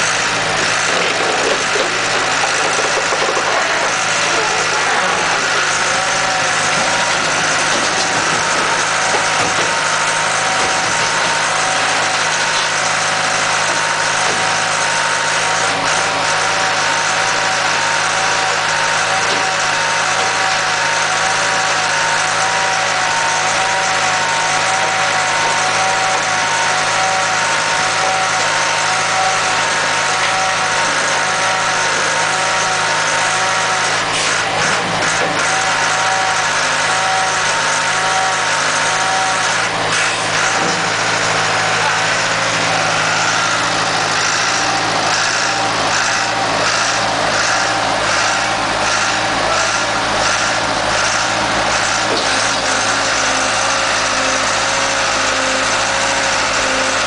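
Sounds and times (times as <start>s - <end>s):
machine drone with wavering whine: 0.0s - 57.0s.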